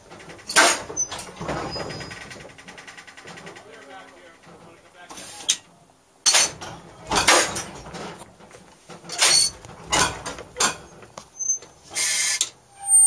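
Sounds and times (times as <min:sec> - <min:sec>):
streetcar clanking and squeaking: 0:00.0 - 0:13.0.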